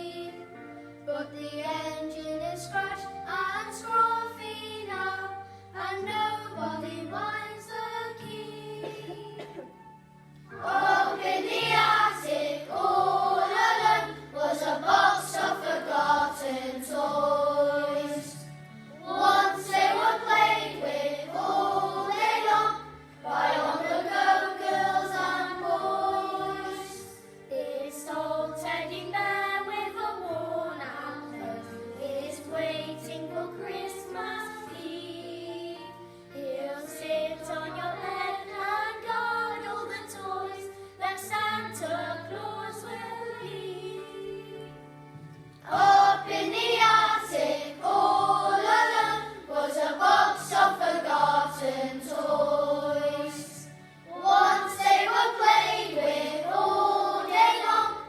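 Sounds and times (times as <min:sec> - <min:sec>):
children's choir singing: 0:00.0 - 0:09.8, 0:10.5 - 0:44.9, 0:45.6 - 0:58.0.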